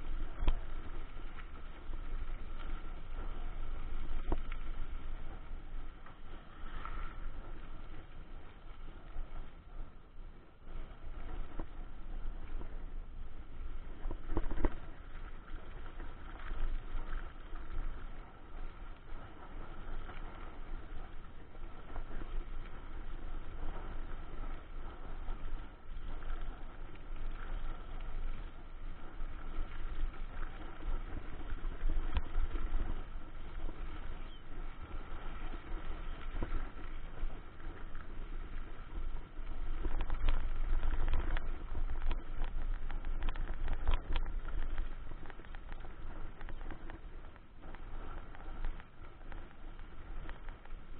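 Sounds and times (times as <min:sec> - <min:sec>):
wind rumbling on microphone: 0:00.0 - 0:50.9.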